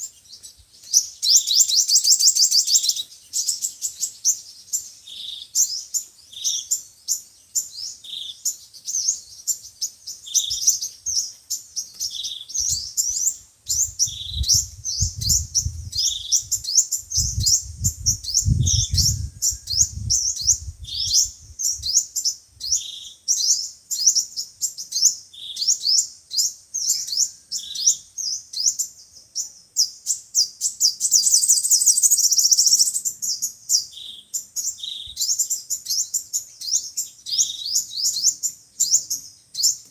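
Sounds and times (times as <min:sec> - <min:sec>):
sunbird chirping: 0:00.0 - 0:39.9.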